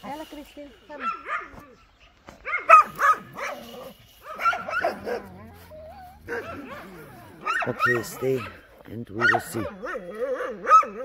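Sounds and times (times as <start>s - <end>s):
dog barking: 1.0s - 11.0s.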